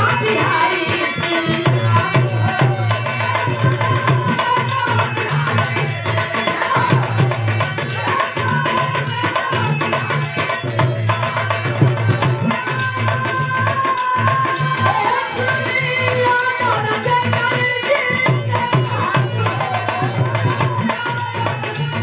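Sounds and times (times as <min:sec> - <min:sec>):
hand drum beat: 0:00.0 - 0:22.0.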